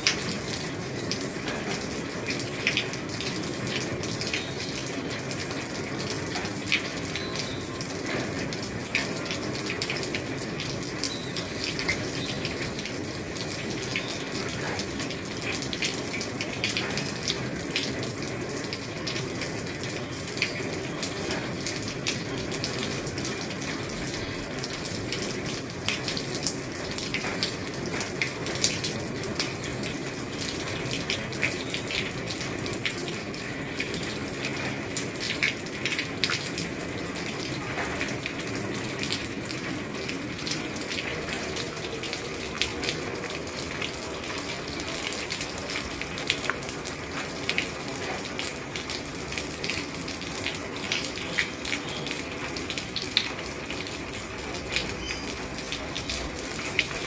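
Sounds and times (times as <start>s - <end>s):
rain on a roof: 0.0s - 57.0s
sharp raindrop ticks: 0.0s - 57.0s.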